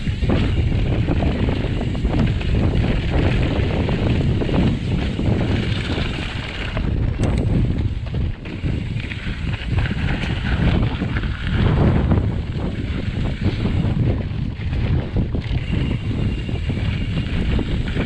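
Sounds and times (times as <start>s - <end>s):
bike clicks: 0.0s - 18.0s
tyres rumbling on dirt: 0.0s - 18.0s
wind buffeting microphone: 0.0s - 18.0s.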